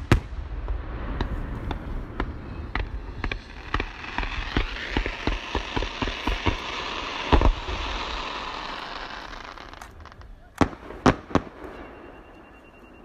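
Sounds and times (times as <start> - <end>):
firework crackle: 0.0 - 12.8
firework shells bursting: 1.2 - 12.8.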